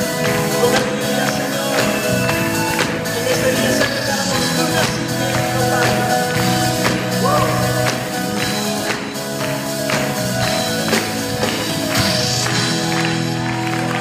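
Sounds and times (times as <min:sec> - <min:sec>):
live band playing worship song: 0:00.0 - 0:14.0
steady percussion beat: 0:00.0 - 0:14.0.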